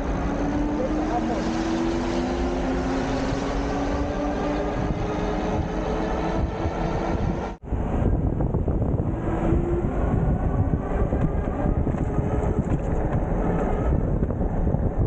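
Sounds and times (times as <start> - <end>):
electric bike road noise: 0.0 - 15.0
wind on microphone: 0.0 - 15.0.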